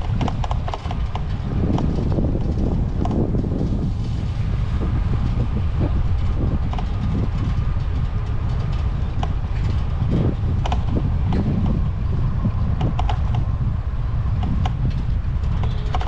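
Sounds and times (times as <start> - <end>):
bicycle clicks and rattles: 0.0 - 16.0
bicycle tyres rumbling: 0.0 - 16.0.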